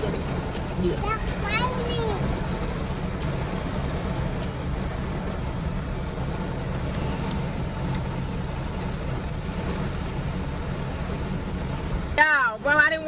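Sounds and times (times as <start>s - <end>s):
heavy rain on car roof: 0.0s - 13.0s.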